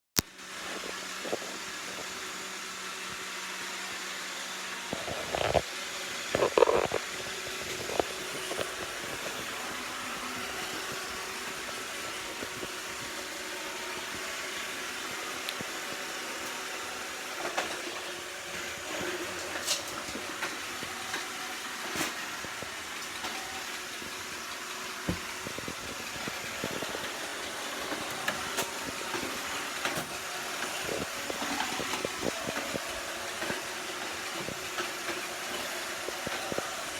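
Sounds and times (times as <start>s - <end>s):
robotic vacuum whirring: 0.3s - 36.9s.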